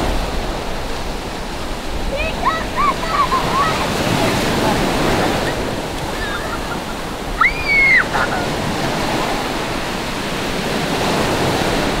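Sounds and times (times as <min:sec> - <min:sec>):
small waves breaking on beach: 0:00.0 - 0:12.0.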